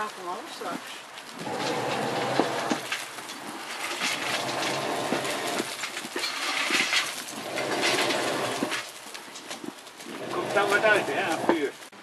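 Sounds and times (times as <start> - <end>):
furnace crackle and clatter: 0.0 - 12.0.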